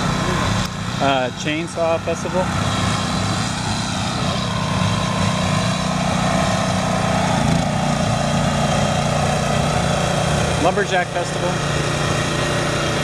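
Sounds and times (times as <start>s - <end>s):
chainsaws running: 0.0s - 13.0s.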